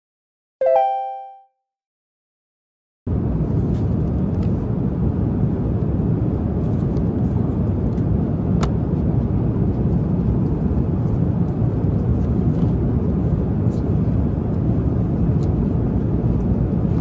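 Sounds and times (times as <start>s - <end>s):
jet airliner cabin noise: 3.1s - 17.0s.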